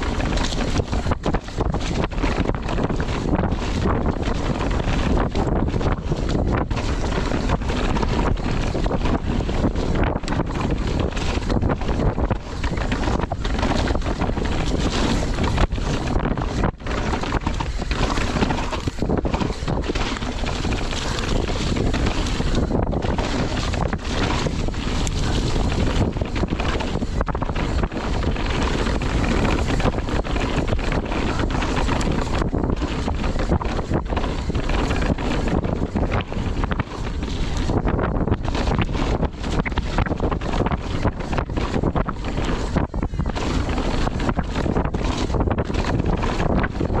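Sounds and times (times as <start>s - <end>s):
bike tyres rolling on dirt: 0.0s - 47.0s
wind on microphone: 0.0s - 47.0s.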